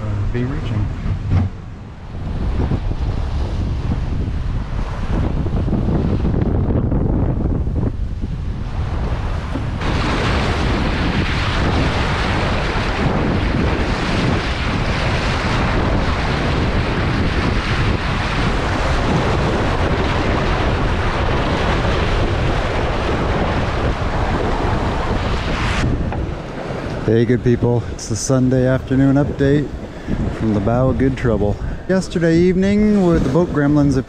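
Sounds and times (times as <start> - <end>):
sea water rushing along hull: 0.0 - 34.0
wind buffeting microphone: 0.0 - 34.0.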